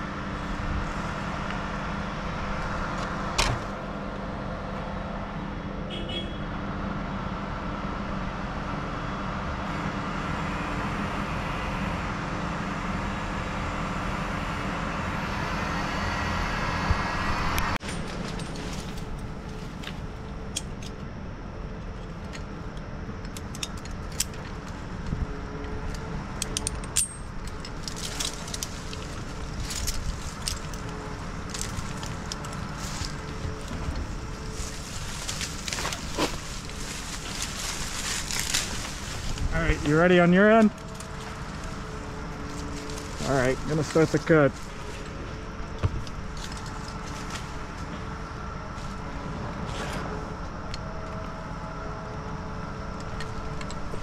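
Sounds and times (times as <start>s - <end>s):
crane engine running: 0.0s - 54.0s.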